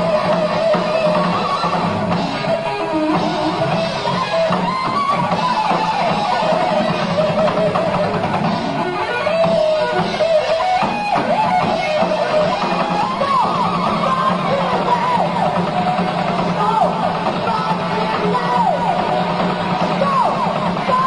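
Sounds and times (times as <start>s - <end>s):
heavy metal band playing: 0.0s - 21.0s
lead electric guitar: 0.0s - 21.0s.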